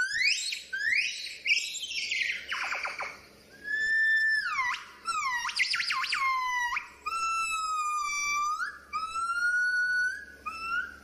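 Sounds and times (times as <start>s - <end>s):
gibbon singing whistled notes: 0.0s - 11.0s.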